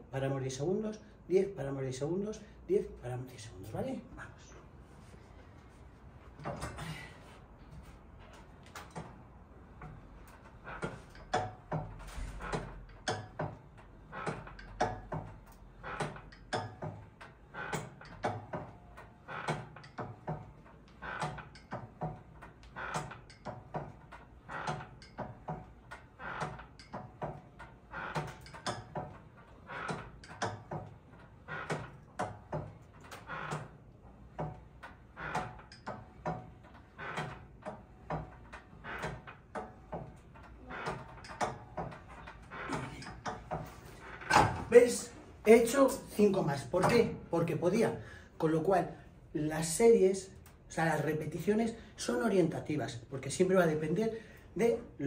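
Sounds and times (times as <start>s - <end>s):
weight machine knocking and sliding: 3.4s - 55.0s.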